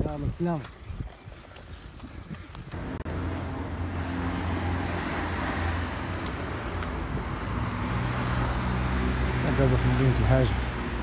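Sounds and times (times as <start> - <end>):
road noise: 0.0 - 11.0
vehicle engine humming: 1.9 - 11.0.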